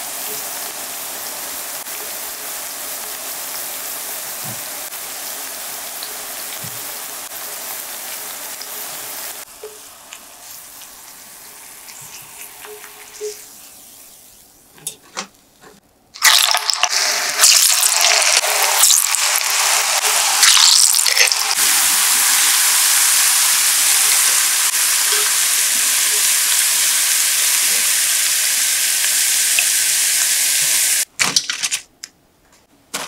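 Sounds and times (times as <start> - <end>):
banana slices sizzling in oil: 0.0 - 14.6, 16.2 - 31.1.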